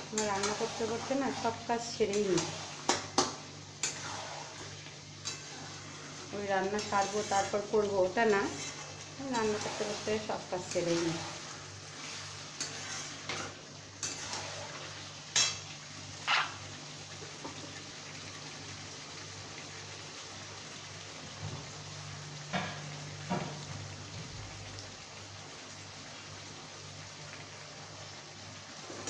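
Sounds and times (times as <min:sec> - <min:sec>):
chicken sizzling in oil: 0:00.0 - 0:29.0.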